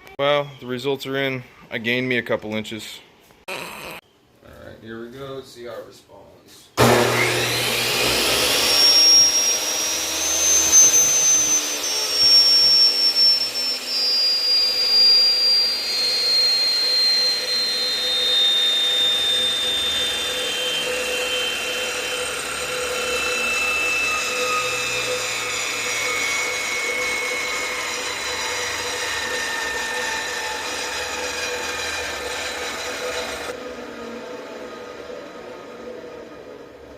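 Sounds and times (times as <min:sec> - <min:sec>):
table saw blade whine: 0:06.8 - 0:36.9.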